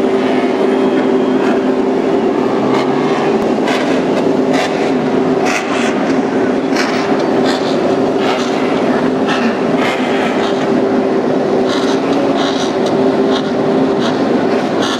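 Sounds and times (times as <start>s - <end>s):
racing motorcycle engines revving: 0.0s - 14.9s.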